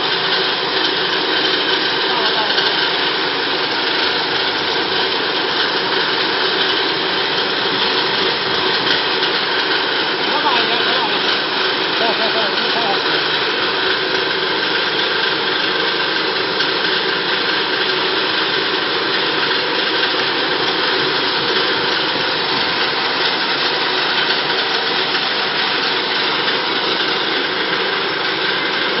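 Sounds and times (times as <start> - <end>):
peanut chopping machine running: 0.0 - 29.0.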